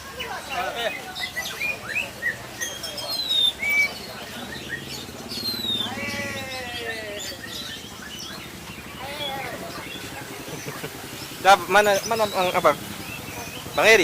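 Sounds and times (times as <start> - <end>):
songbirds chirping and whistling: 0.0 - 14.0.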